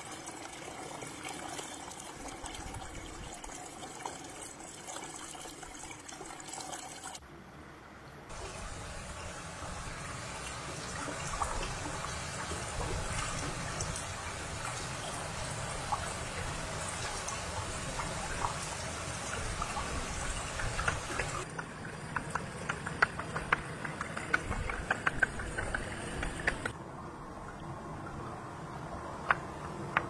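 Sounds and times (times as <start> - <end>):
stream trickling over stones: 0.0 - 7.2, 8.3 - 26.8.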